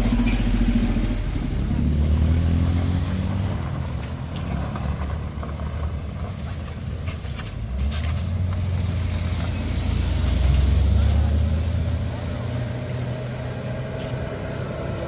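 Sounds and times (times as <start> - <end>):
heavy vehicle engines running: 0.0 - 15.0.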